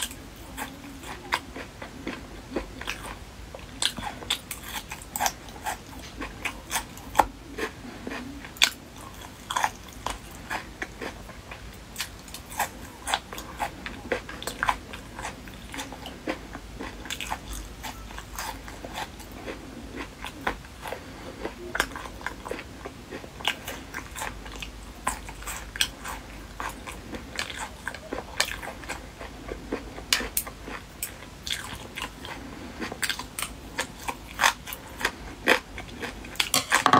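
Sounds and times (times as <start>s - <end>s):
person chewing crunchily: 0.0s - 36.9s.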